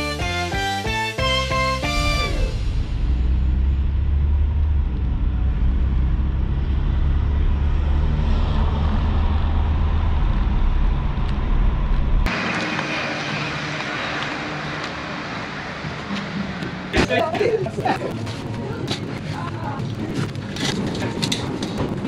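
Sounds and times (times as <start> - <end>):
street traffic noise: 0.0 - 22.0
car engine and tyre rumble: 2.0 - 22.0.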